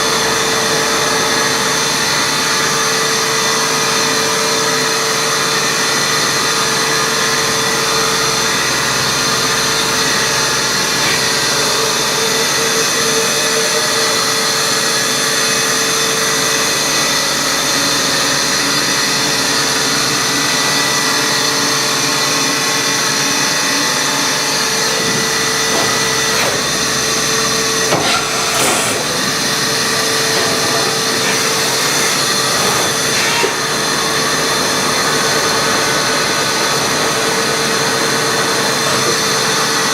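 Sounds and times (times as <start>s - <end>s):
machining center hum and whine: 0.0s - 39.9s.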